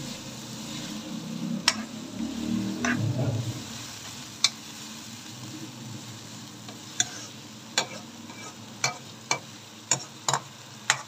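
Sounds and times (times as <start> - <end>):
minced meat sizzling in a pan: 0.0 - 11.0.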